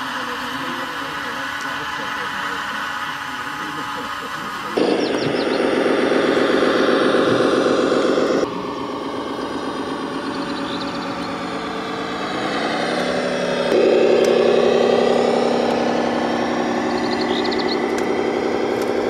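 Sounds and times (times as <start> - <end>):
model truck engine running: 0.0 - 19.0.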